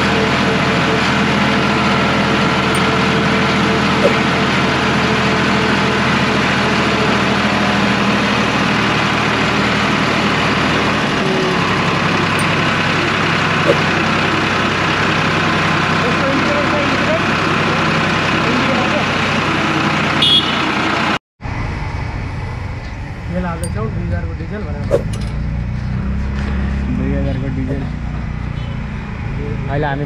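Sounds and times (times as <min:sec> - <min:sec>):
tractor diesel engine running: 0:00.0 - 0:28.4.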